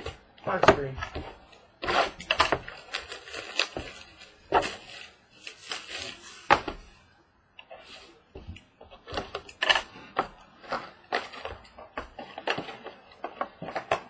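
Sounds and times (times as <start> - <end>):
wrapping rustling: 0.0 - 7.1, 7.7 - 14.0.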